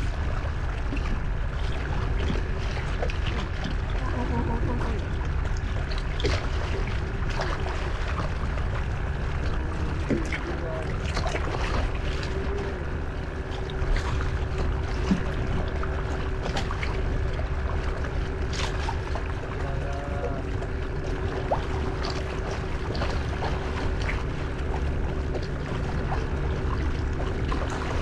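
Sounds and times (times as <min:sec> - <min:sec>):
faint steady hum: 0:00.0 - 0:28.0
water lapping against kayak hull: 0:00.0 - 0:28.0
wind rumbling on microphone: 0:00.0 - 0:28.0
small splashes and knocks: 0:04.8 - 0:28.0.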